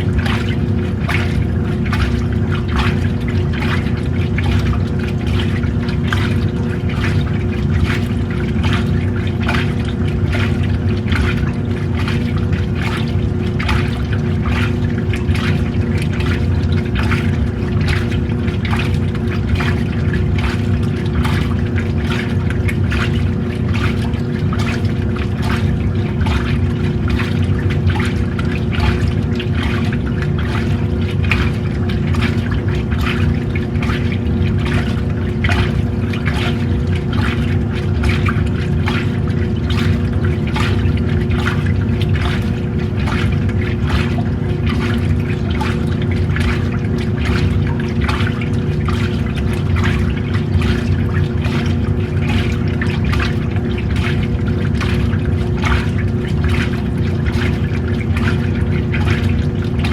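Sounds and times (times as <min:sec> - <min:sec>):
washing machine motor humming: 0:00.0 - 0:59.9
water and clothes sloshing: 0:00.0 - 0:59.9.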